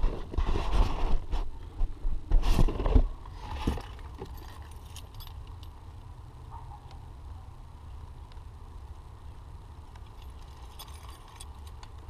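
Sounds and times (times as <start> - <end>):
steady low rumble: 1.0 - 12.0.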